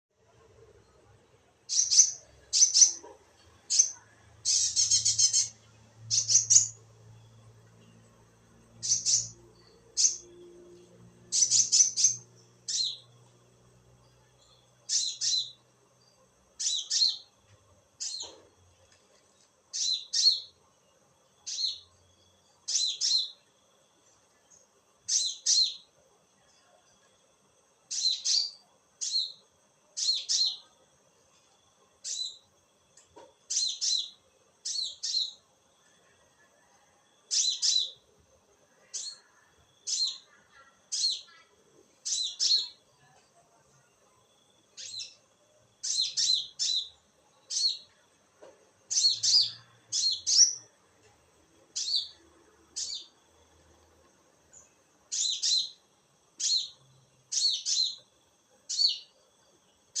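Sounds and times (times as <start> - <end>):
small bird chirping: 0.4 - 27.2, 27.8 - 38.1, 38.7 - 60.0.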